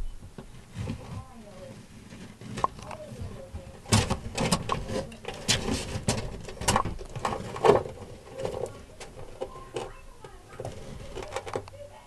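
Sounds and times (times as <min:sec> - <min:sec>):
knocks and scrapes on wood: 0:00.0 - 0:11.7.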